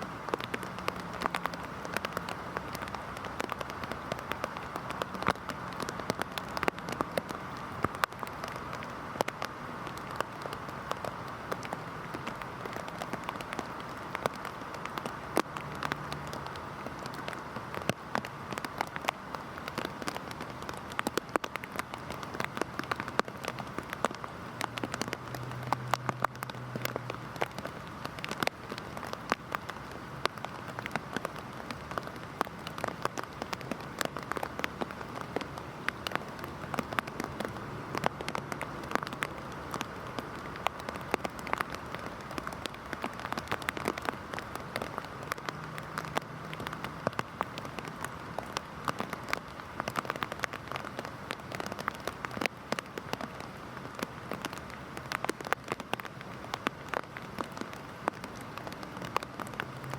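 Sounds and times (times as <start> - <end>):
heavy rain on a hard surface: 0.0 - 59.9.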